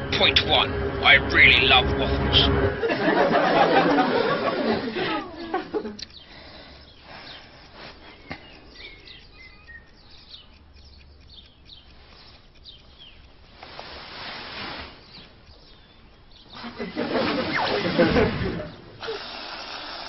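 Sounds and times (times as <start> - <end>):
birds chirping: 0.0 - 19.2.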